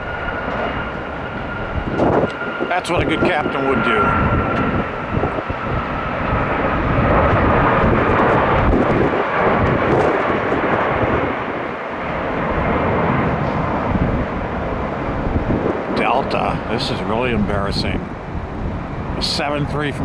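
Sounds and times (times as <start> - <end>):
faint high jet whine: 0.0 - 20.0
jet engines roaring: 0.0 - 20.0.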